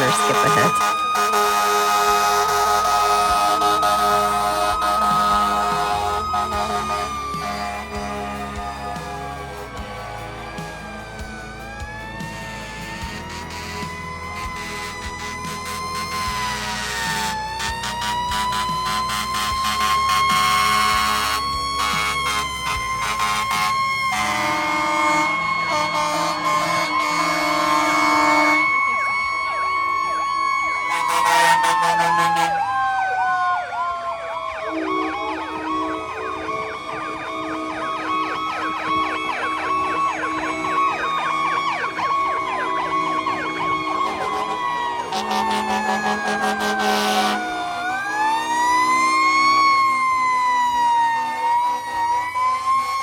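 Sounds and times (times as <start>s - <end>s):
loud steady horn blasts: 0.0s - 53.0s
wailing siren sliding down: 0.0s - 53.0s
yelping fire engine sirens: 0.0s - 53.0s.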